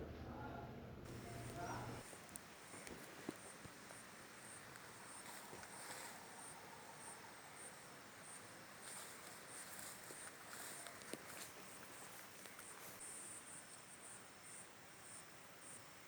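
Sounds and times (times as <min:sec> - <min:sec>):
faint forest ambience: 0:01.0 - 0:16.0
insect chirping: 0:01.1 - 0:16.0.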